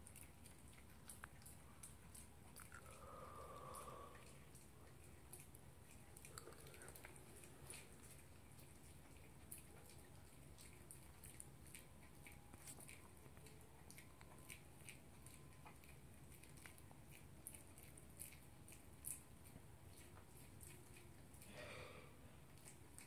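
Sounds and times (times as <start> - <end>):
dog chewing food: 0.0 - 23.0.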